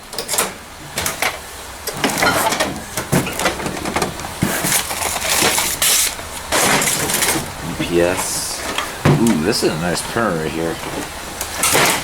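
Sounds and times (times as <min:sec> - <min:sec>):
junk crunching in a dumpster: 0:00.0 - 0:12.0.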